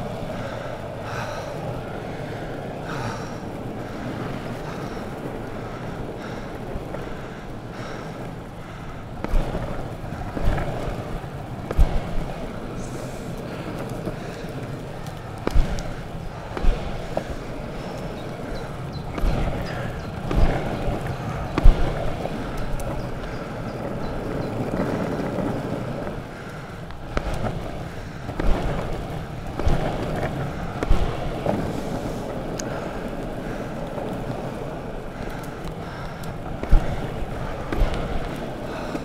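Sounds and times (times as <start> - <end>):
longboard wheels rumbling on asphalt: 0.0 - 39.0.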